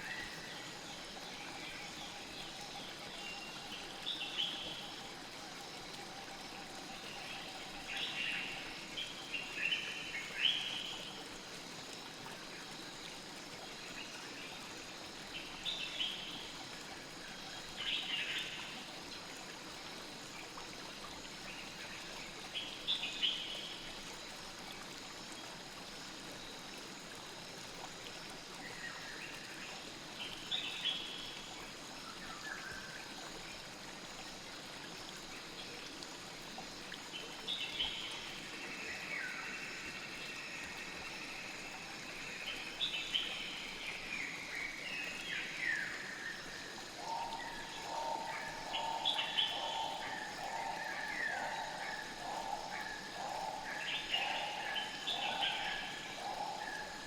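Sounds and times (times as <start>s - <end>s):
flowing stream rushing: 0.0s - 57.0s.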